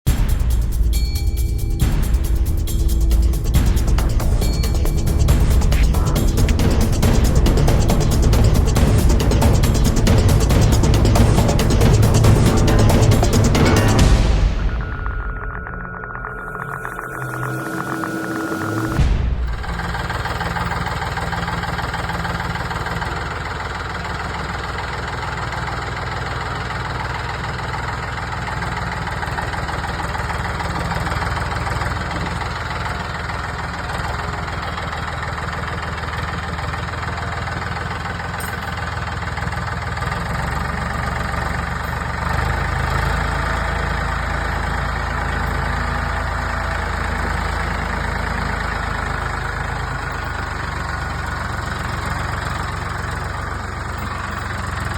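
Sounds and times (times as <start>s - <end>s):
skid steer engine idling: 0.9s - 15.0s, 18.4s - 54.9s.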